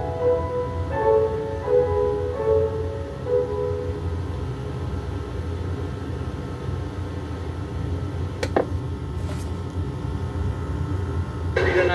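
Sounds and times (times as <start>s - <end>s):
videotape hum and hiss: 0.0s - 11.9s.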